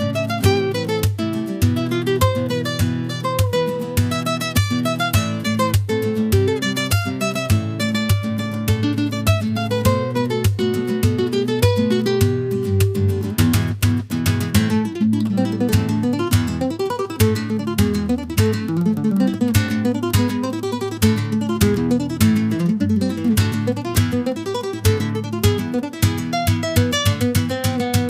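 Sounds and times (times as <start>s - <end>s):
acoustic guitar plucked notes: 0.0s - 28.0s.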